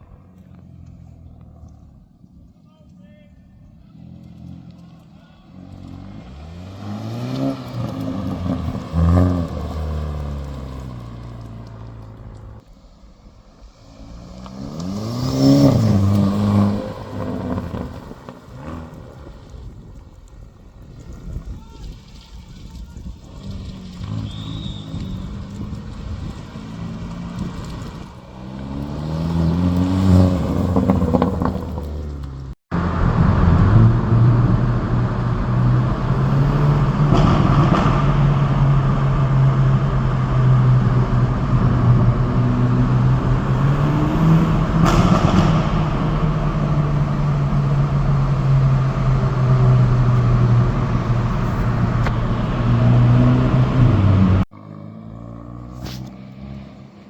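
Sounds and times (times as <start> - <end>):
car engine accelerating: 3.6 - 22.2, 23.0 - 57.0.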